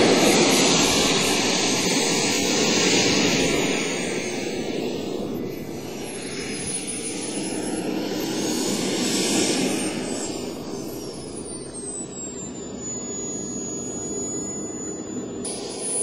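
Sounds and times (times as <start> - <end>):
model jet engine whine: 0.0 - 16.0.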